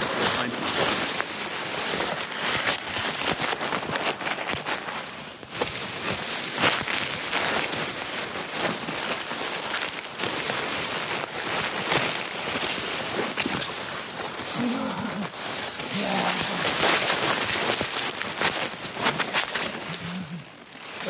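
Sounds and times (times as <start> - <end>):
tissue paper crinkling: 0.0 - 21.0.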